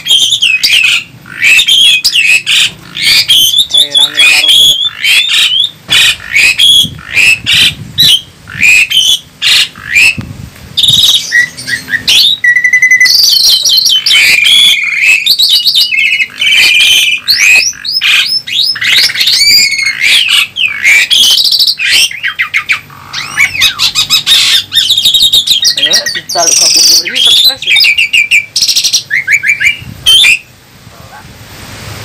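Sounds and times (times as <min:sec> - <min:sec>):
starlings singing: 0:00.0 - 0:30.6.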